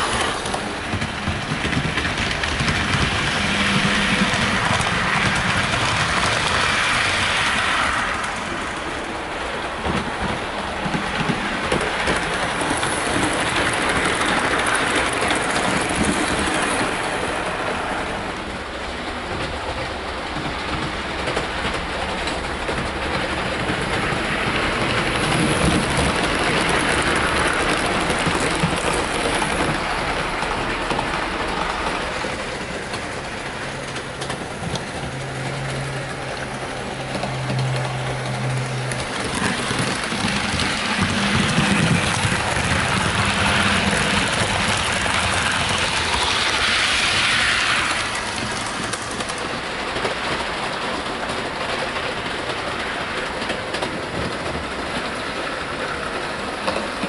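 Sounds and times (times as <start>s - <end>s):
model train whirring rattle: 0.0s - 8.9s, 9.8s - 57.0s.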